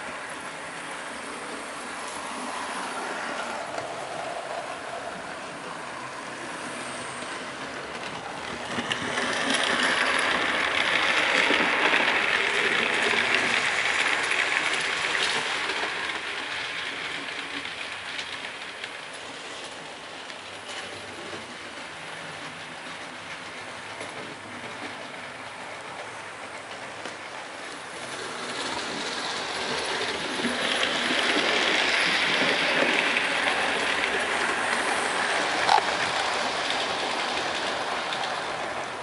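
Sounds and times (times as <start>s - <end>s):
model train running on track: 0.0s - 39.0s.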